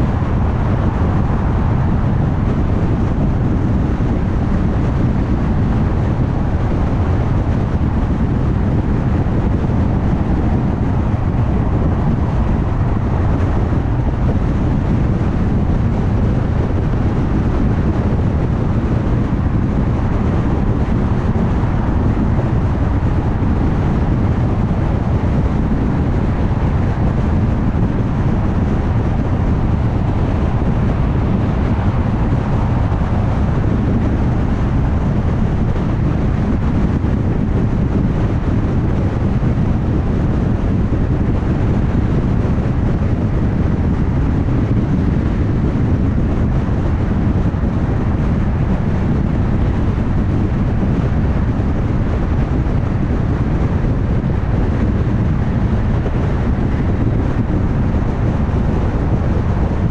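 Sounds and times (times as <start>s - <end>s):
car road noise at highway speed: 0.0s - 59.9s.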